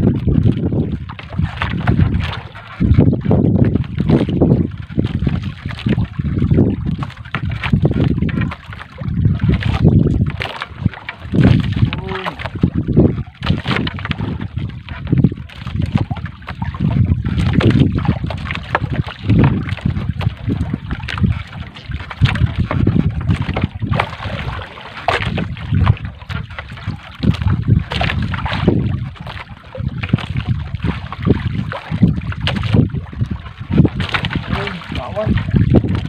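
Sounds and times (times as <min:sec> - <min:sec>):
net pulled over wooden boat side: 0:00.0 - 0:36.0
sea water splashing and dripping: 0:00.0 - 0:36.0
wind buffeting microphone: 0:00.0 - 0:36.0.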